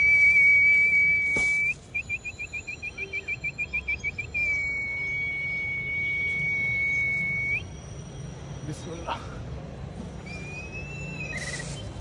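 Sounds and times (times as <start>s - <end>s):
high warbling whistle: 0.0s - 8.6s, 10.1s - 12.0s.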